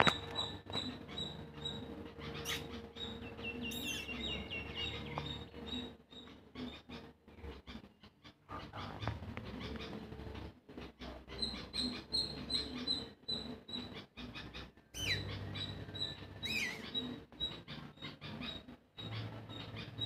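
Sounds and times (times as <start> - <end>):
swooping bird calls: 0.0 - 10.4, 11.0 - 20.0
small birds chirping: 0.0 - 20.0.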